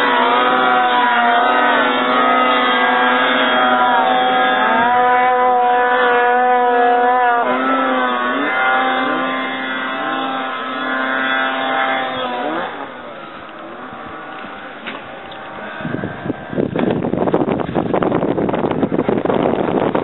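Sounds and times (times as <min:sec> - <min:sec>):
snowmobile engine whining: 0:00.0 - 0:20.0.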